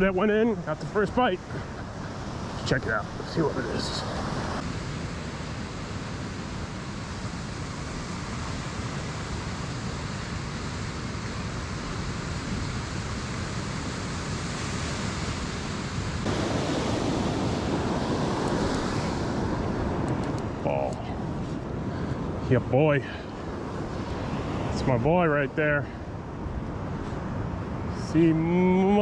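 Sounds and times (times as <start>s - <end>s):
ocean surf washing: 0.0s - 29.0s
steady wind: 0.0s - 29.0s.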